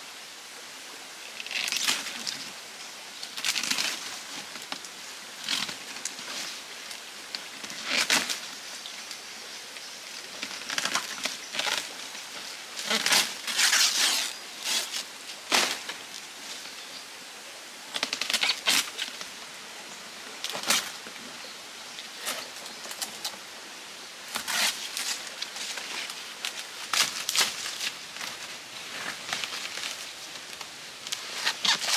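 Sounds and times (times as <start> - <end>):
palm fronds rustling: 0.0 - 31.9
stream flowing: 0.0 - 31.9.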